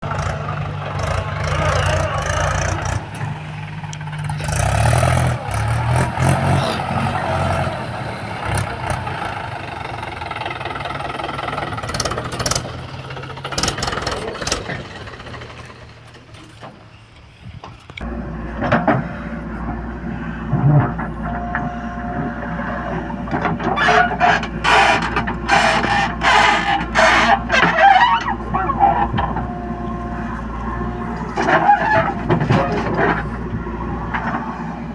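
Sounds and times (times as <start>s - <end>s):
heavy machinery engine drone: 0.0s - 34.9s.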